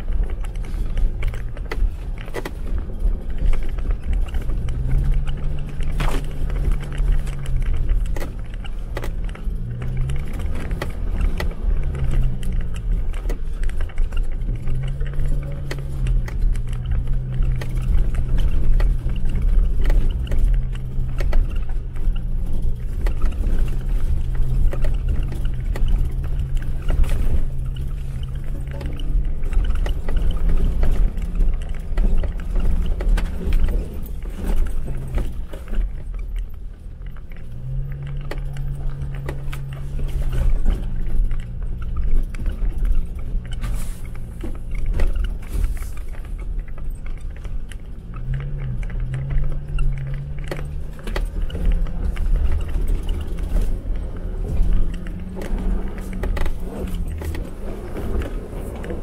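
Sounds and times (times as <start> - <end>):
car engine revving: 0.0 - 59.0
knocks and rattles: 0.0 - 59.0.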